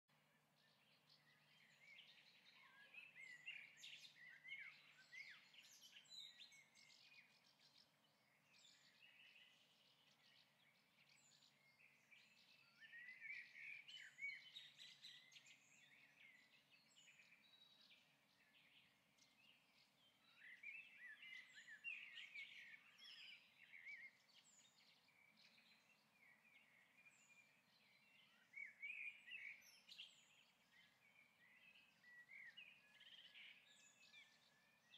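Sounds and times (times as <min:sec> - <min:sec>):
birds twittering: 0:00.6 - 0:34.9.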